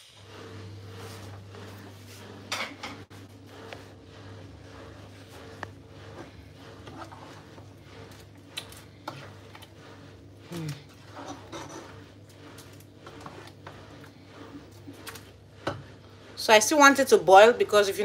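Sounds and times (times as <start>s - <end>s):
steady low hum: 0.0s - 17.8s
utensil scraping against pot: 0.2s - 18.0s
spoon stirring thick soup: 0.3s - 16.4s.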